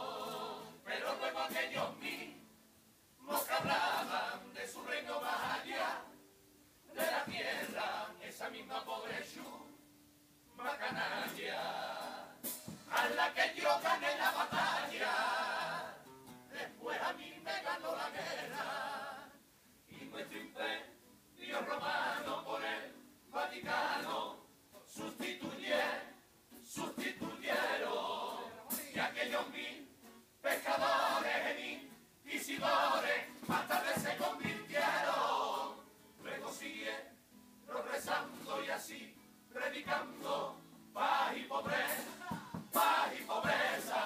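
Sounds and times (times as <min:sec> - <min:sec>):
group of men singing in unison: 0:00.0 - 0:02.5, 0:03.2 - 0:06.2, 0:06.9 - 0:09.8, 0:10.6 - 0:44.0.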